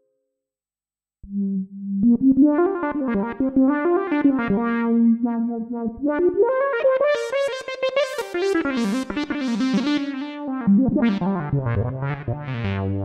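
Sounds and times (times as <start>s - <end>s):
synthesizer melody: 2.2s - 13.0s.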